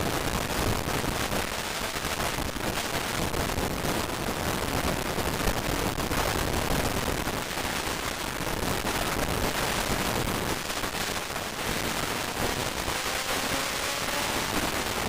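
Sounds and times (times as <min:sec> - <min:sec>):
dense crackling noise: 0:00.0 - 0:15.0.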